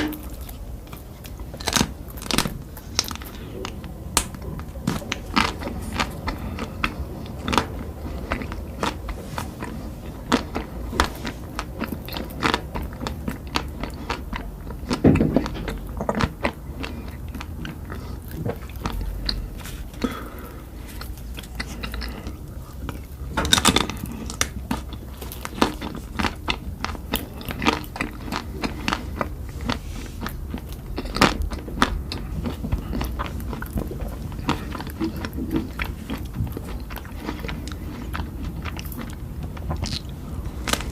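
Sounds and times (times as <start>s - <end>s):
person crunching and chewing: 0.0s - 40.9s.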